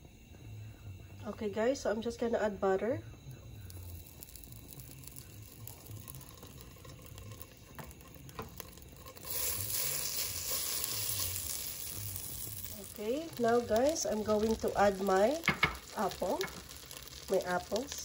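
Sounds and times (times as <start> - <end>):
butter sizzling in a pan: 3.2 - 18.0.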